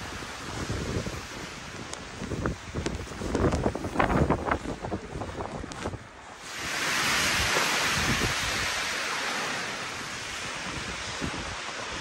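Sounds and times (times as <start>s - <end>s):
blizzard wind through trees: 0.0s - 12.0s.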